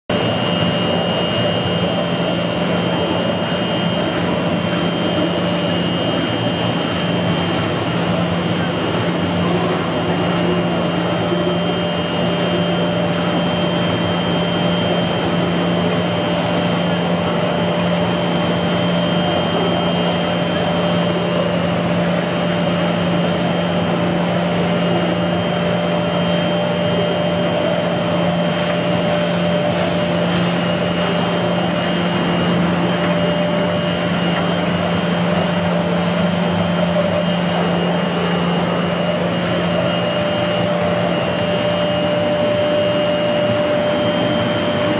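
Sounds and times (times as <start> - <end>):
machine hum with high whine: 0.0 - 44.9.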